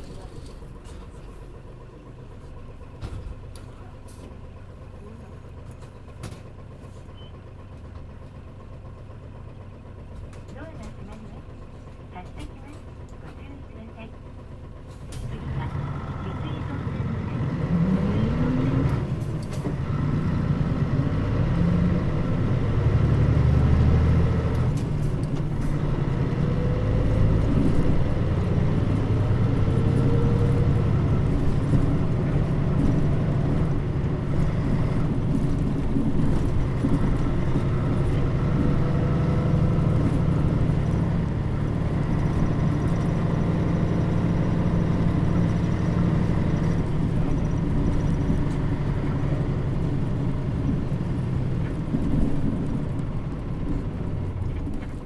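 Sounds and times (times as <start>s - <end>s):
bus diesel engine driving: 0.0s - 55.0s
road noise: 0.0s - 55.0s.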